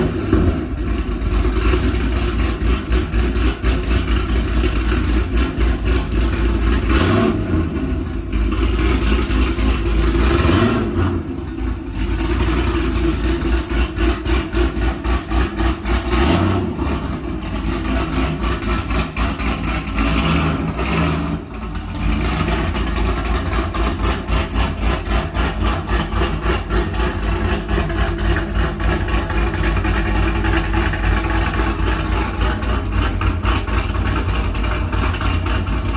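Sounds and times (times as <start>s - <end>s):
car engine idling with lumpy lope: 0.0s - 35.9s.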